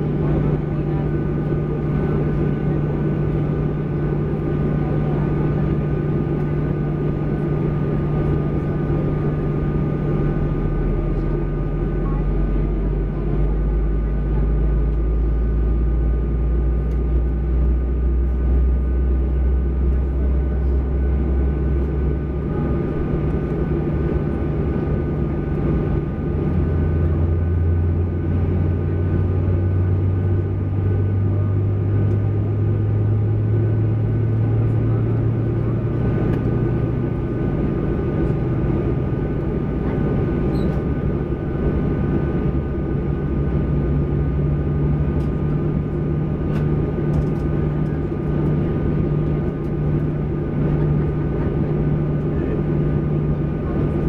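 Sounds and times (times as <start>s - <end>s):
airplane cabin hum: 0.0s - 54.0s
low drone: 0.0s - 54.0s.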